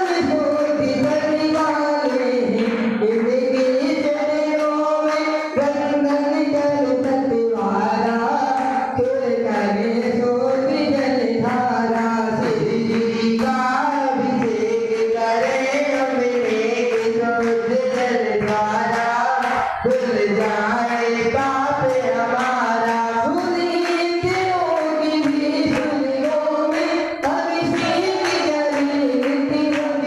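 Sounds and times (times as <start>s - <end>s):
voices singing a chant: 0.0s - 30.0s.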